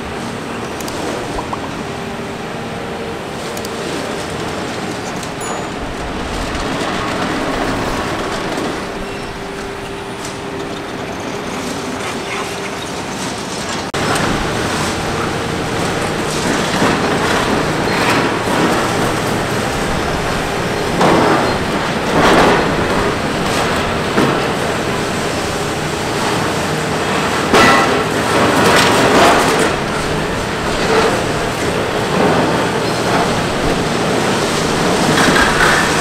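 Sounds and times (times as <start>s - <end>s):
excavator diesel engine under load: 0.0s - 36.0s.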